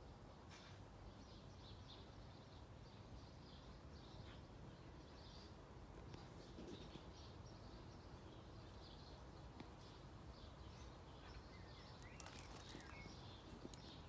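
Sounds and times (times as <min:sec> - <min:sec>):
distant birds chirping: 0:01.0 - 0:14.0.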